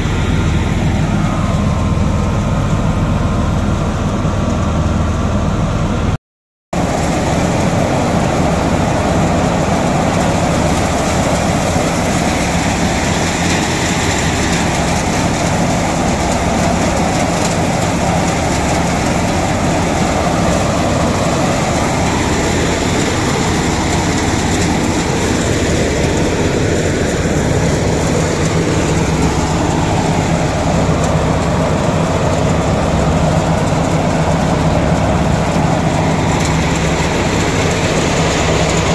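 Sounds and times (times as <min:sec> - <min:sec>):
threshing drum whirring: 0:00.0 - 0:06.2, 0:06.8 - 0:38.9
tractor engine drone: 0:00.0 - 0:06.2, 0:06.8 - 0:38.9.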